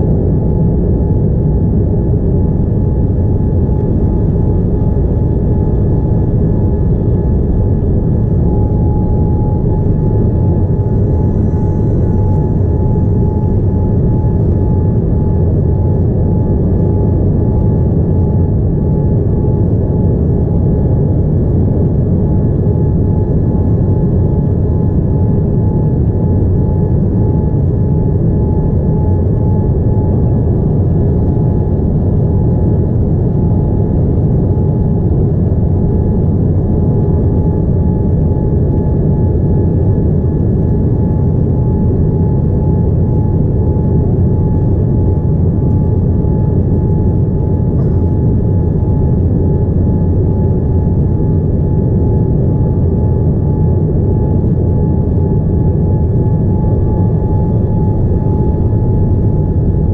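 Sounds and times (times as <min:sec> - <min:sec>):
airliner cabin engine rumble: 0:00.0 - 0:59.9
thin steady whine: 0:00.0 - 0:59.9.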